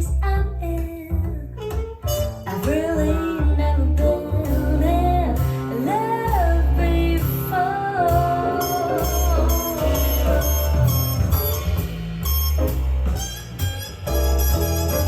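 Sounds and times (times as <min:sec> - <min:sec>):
song with singer guitar and bass: 0:00.0 - 0:15.0.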